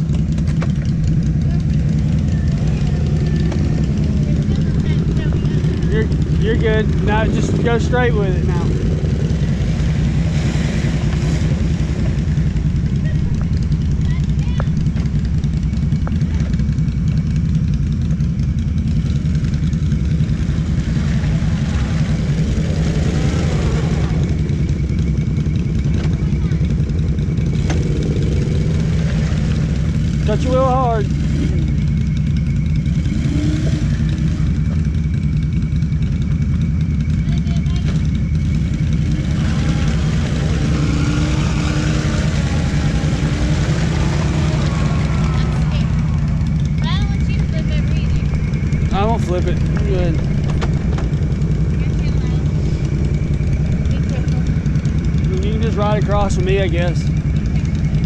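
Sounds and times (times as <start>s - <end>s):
atv engine idling: 0.0s - 58.0s.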